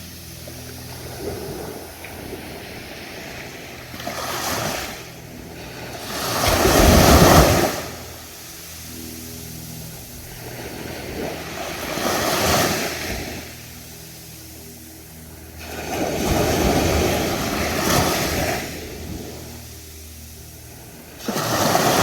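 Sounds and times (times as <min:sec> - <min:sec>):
ocean waves breaking on beach: 0:00.0 - 0:22.0.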